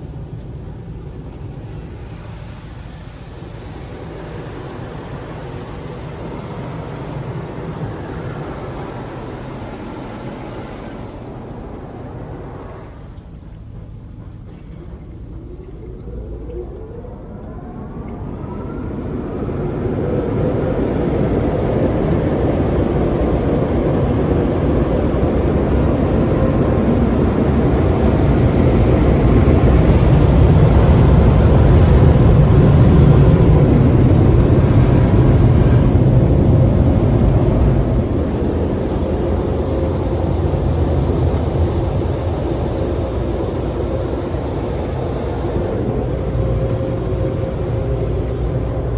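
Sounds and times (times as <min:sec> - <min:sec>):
car wash dryer blowers: 0:00.0 - 0:48.9.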